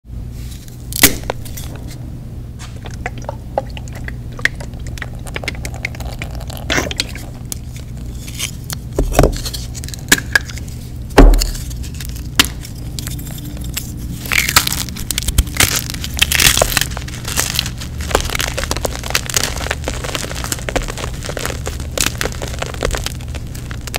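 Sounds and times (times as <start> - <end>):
chalk blocks cracking: 4.0 - 23.9.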